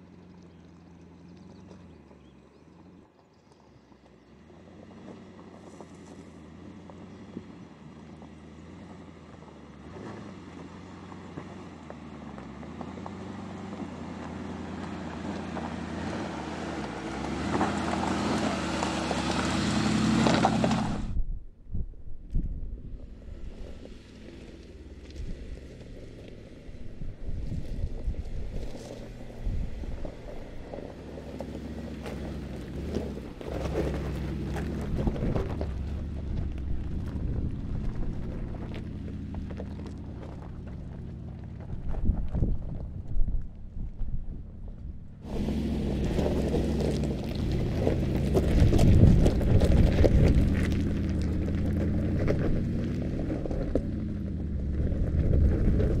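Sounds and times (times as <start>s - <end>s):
tyres crunching over gravel: 0.0s - 21.1s, 23.0s - 56.0s
engine running at low revs: 0.0s - 56.0s.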